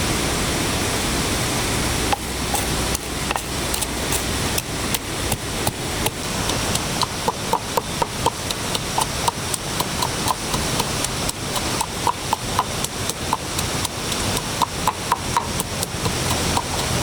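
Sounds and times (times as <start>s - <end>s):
constant hiss: 0.0s - 17.0s.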